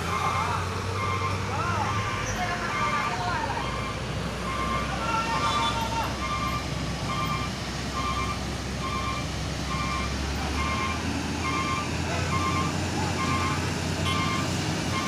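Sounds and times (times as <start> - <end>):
reversing alarm beeping: 0.0 - 15.0
truck engines droning: 0.0 - 15.0.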